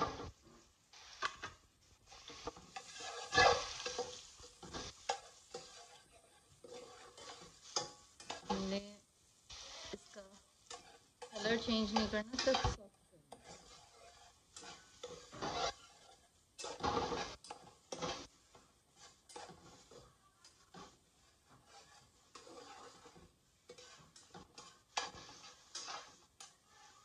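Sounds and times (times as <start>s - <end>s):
metal spatula scraping frying pan: 0.0s - 8.9s, 9.5s - 27.0s.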